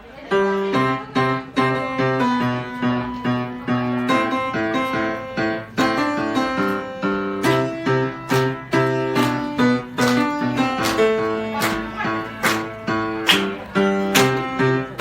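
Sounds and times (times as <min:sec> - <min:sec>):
piano playing: 0:00.6 - 0:15.0.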